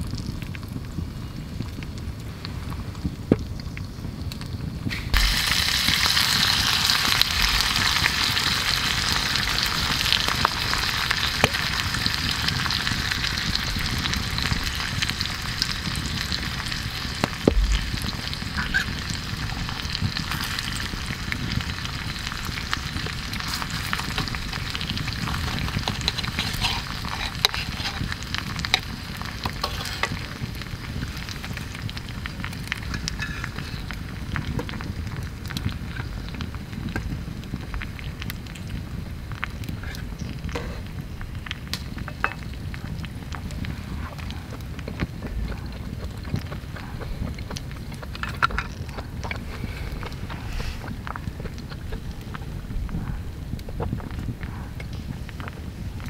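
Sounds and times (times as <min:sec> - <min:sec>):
campfire crackling: 0:00.0 - 0:56.0
steak sizzling in a frying pan: 0:04.9 - 0:56.0.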